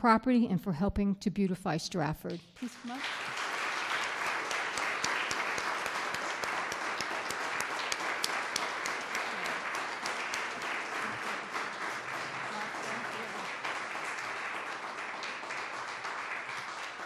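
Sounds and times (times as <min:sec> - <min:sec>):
audience applauding: 0:02.6 - 0:17.0.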